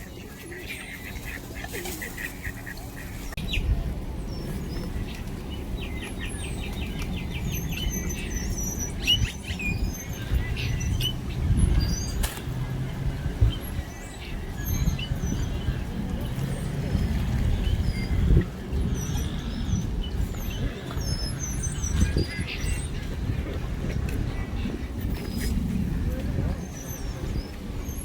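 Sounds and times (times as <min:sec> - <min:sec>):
small birds chirping and whistling: 0:00.0 - 0:23.5, 0:24.1 - 0:28.0.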